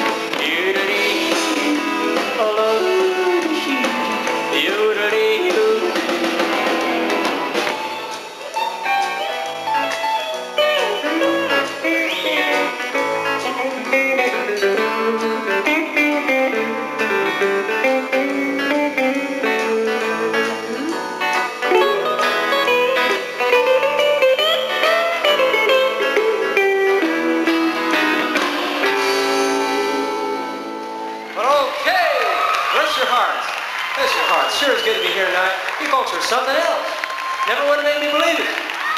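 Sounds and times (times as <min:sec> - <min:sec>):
electric guitar notes: 0:00.0 - 0:31.4.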